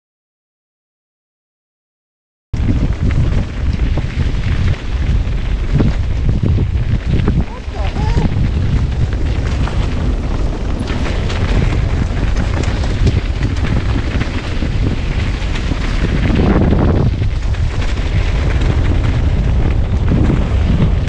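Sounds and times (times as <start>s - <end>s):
mountain bike rattling on dirt trail: 2.6s - 21.0s
wind buffeting microphone: 2.6s - 21.0s.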